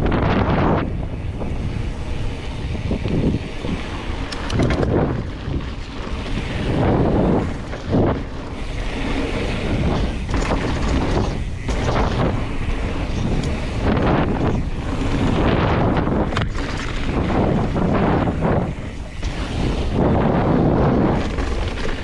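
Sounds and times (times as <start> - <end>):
bike clicks: 0.0 - 22.0
bike tyres rolling on dirt: 0.0 - 22.0
wind buffeting microphone: 0.0 - 22.0.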